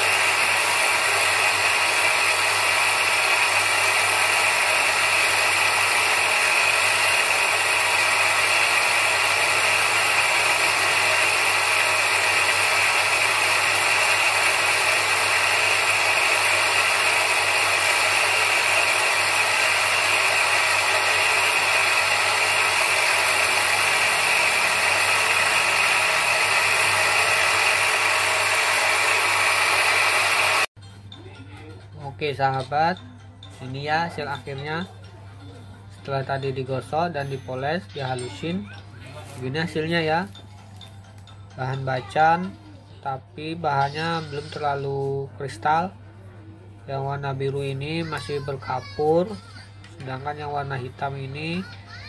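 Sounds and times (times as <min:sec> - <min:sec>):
bench grinder running: 0:00.0 - 0:30.7, 0:36.1 - 0:42.5, 0:43.5 - 0:46.0, 0:47.0 - 0:52.0.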